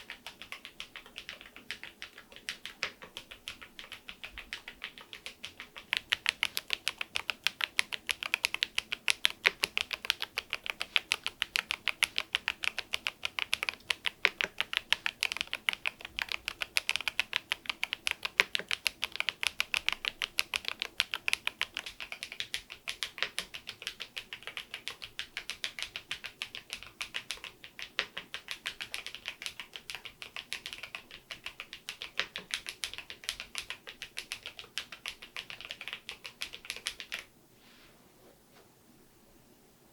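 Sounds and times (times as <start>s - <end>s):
fast keyboard typing: 0.0s - 37.3s.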